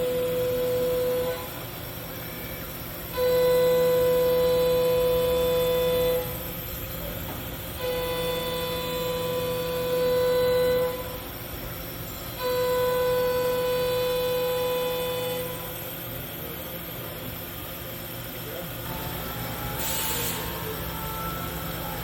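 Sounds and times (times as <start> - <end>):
high-pitched router whine: 0.0 - 22.0
machine hum: 0.0 - 22.0.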